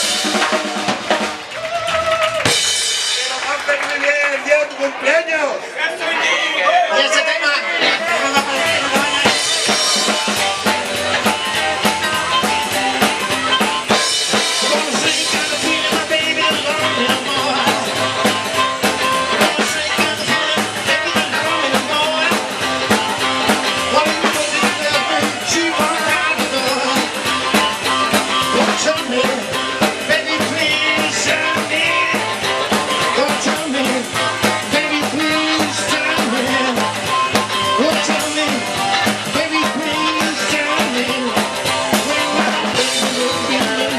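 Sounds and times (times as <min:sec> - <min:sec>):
drum kit rimshots: 0:00.0 - 0:05.0, 0:07.7 - 0:43.9
rock band playing live: 0:00.0 - 0:43.9.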